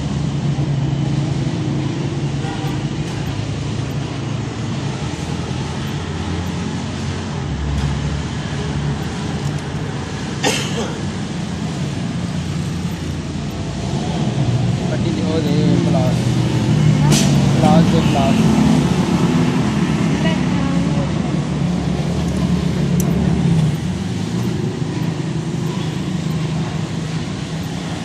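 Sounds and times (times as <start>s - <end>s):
engine hum: 0.0s - 28.0s.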